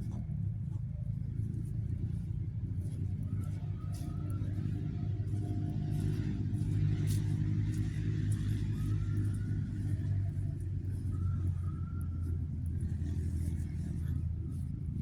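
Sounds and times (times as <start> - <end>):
road rumble: 0.0 - 15.0
vehicle engine drone: 0.0 - 15.0.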